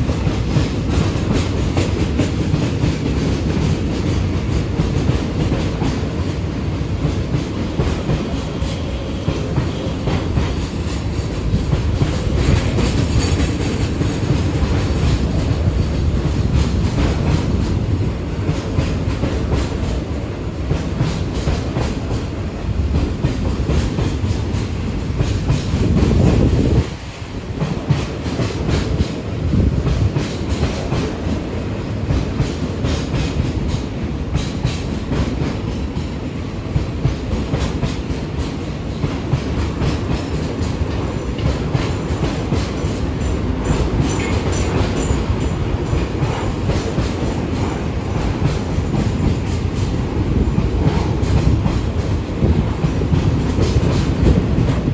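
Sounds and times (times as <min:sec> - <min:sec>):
freight train rumbling past: 0:00.0 - 0:54.9
wheels clicking over rail joints: 0:00.0 - 0:54.9.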